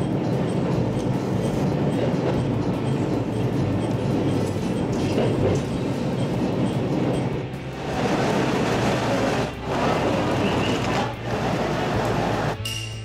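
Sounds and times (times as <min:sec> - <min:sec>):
train wheels rumbling on rails: 0:00.0 - 0:12.6.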